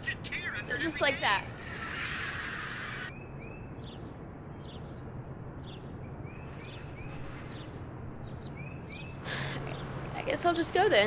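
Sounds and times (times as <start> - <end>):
low hum: 0.0 - 11.0
small birds chirping: 0.0 - 11.0.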